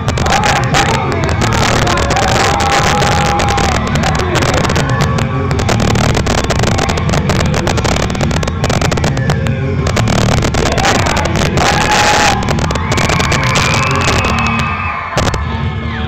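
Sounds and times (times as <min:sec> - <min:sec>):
loud music over pa system: 0:00.0 - 0:16.0.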